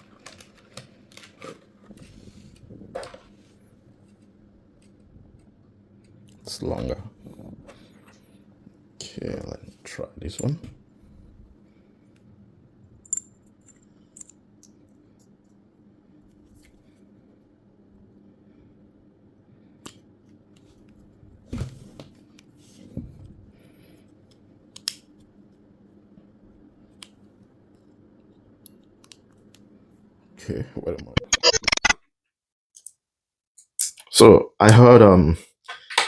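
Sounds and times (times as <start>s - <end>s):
faint steady hum: 0.0s - 31.4s.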